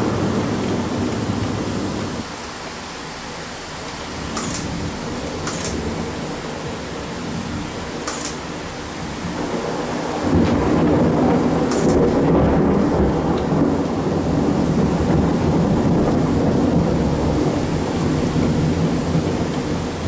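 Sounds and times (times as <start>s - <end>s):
thunder rumbling: 0.0s - 2.3s, 4.1s - 20.0s
heavy rain hiss: 0.0s - 20.0s.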